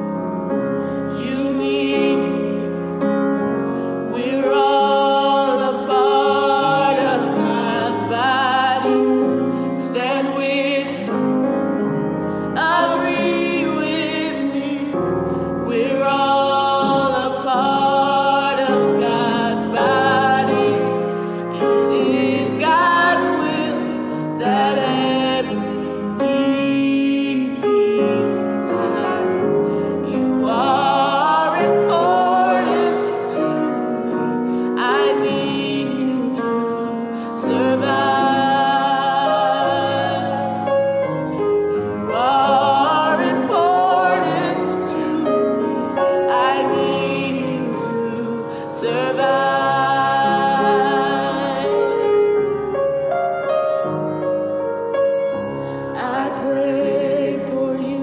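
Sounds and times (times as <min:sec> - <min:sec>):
piano chords: 0:00.0 - 0:58.0
woman singing gospel song: 0:01.1 - 0:02.6, 0:04.1 - 0:09.1, 0:09.8 - 0:11.2, 0:12.6 - 0:15.0, 0:15.7 - 0:40.6, 0:41.8 - 0:51.9, 0:56.0 - 0:58.0.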